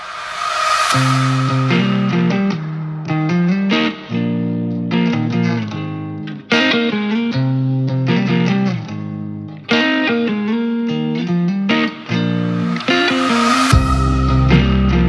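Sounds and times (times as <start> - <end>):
guitar background music: 0.9 - 15.0.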